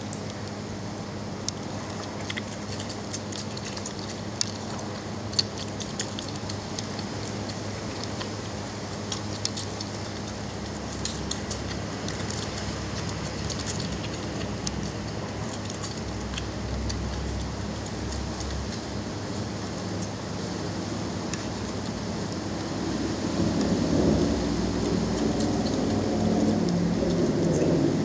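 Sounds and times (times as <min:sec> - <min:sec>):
puppies suckling clicks and smacks: 0:00.0 - 0:28.0
steady hiss and low hum: 0:00.0 - 0:28.0.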